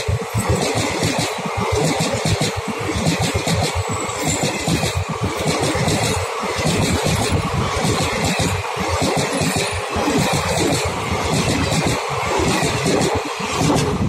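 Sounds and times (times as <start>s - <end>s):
train coaches rushing past: 0.0s - 14.0s
wheels clattering on rails: 0.0s - 14.0s.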